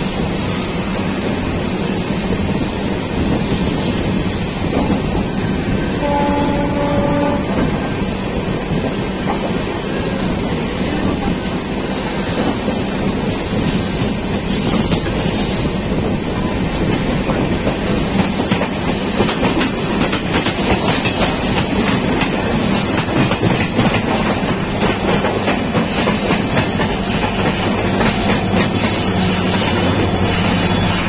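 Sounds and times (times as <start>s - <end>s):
diesel locomotive engine hum: 0.0s - 31.0s
train rumble: 0.0s - 31.0s.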